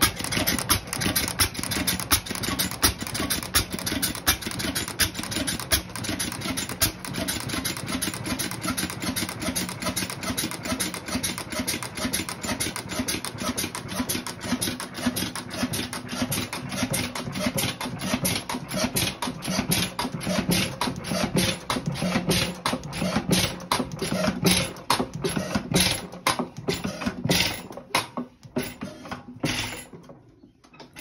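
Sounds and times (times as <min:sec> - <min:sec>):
stationary engine ticking: 0:00.0 - 0:26.4.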